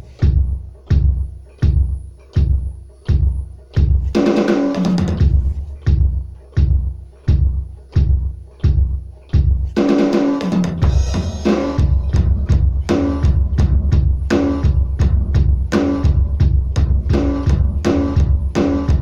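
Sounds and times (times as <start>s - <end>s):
electronic drum kit groove: 0.0s - 19.0s.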